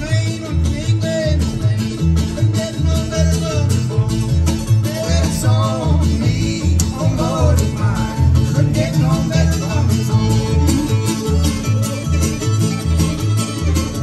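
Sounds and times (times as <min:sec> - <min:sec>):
two men singing: 0:00.0 - 0:11.8
bluegrass string band playing: 0:00.0 - 0:14.0
upright bass line: 0:00.0 - 0:14.0.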